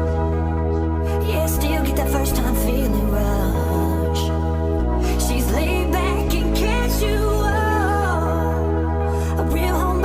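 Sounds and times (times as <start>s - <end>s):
bass chords: 0.0s - 10.0s.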